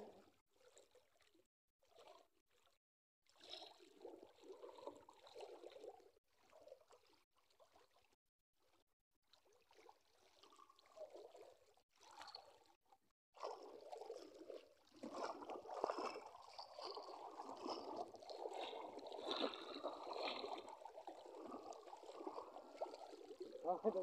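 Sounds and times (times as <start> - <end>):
wading through shallow water: 0.0 - 12.8, 13.4 - 24.0.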